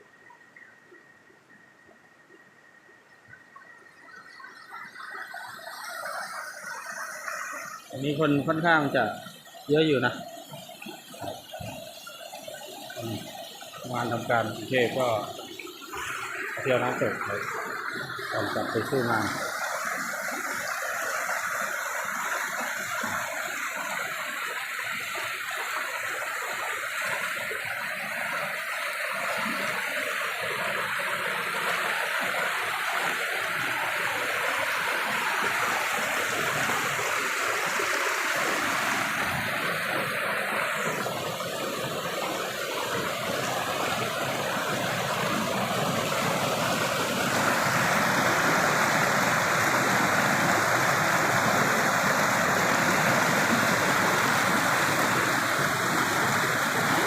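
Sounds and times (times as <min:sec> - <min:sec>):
waterfall rushing: 0:04.1 - 0:57.0.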